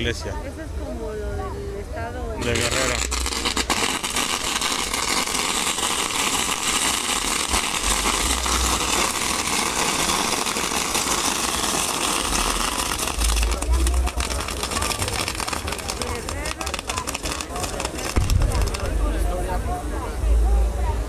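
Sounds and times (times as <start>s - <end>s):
hiss of spark fountains: 2.4s - 19.3s
fireworks crackling: 2.4s - 20.2s.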